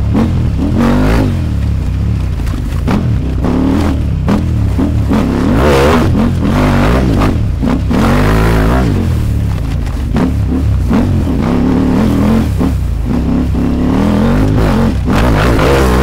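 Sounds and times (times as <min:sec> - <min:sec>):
motorcycle engine revving hard: 0:00.0 - 0:16.0.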